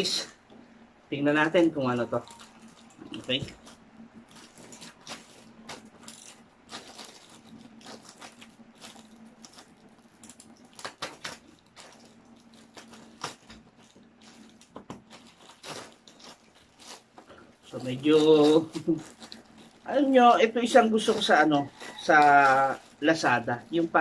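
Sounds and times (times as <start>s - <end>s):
packaging rustling and tearing: 1.5s - 24.0s.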